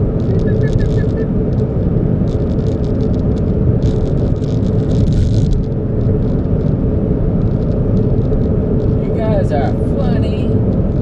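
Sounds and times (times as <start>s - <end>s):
car rumble from inside: 0.0s - 11.0s.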